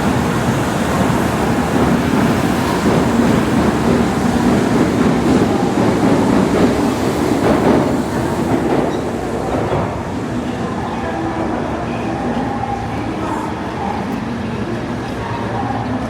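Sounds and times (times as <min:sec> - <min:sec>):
train rushing past: 0:00.0 - 0:16.0.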